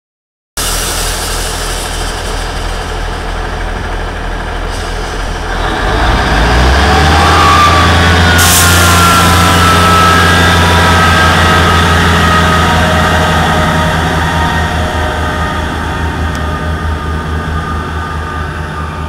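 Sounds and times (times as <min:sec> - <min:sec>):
train diesel engines: 0:00.6 - 0:19.0.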